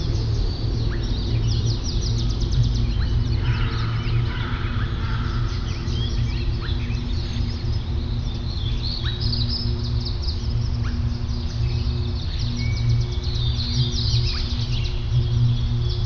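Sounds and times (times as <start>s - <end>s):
songbird chirping and whistling: 0.0s - 16.0s
steady low drone: 0.0s - 16.0s.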